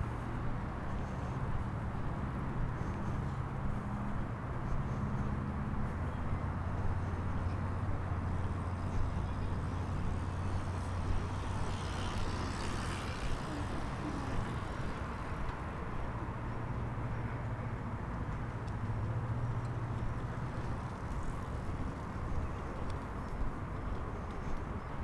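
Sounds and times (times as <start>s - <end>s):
vehicle passing: 0.0s - 24.8s
vehicle engine hum: 0.0s - 25.0s.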